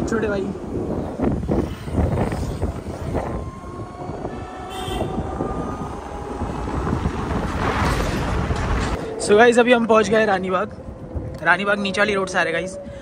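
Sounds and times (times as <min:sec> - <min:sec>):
road noise: 0:00.0 - 0:13.0
wind on microphone: 0:00.0 - 0:13.0.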